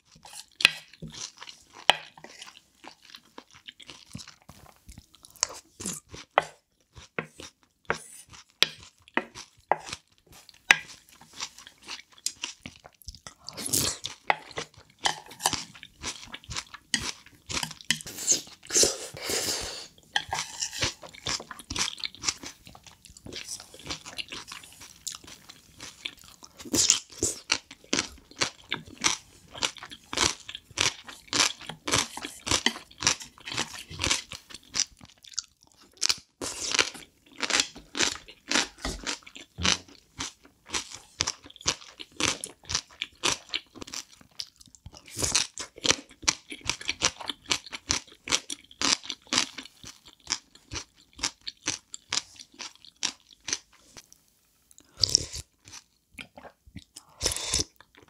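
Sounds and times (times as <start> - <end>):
crunchy chewing of pickled radish: 0.0 - 58.0.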